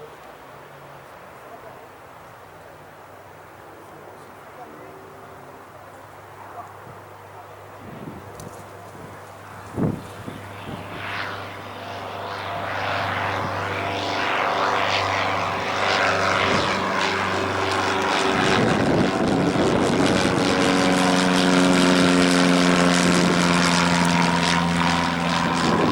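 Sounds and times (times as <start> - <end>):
propeller plane engine: 0.3 - 25.9.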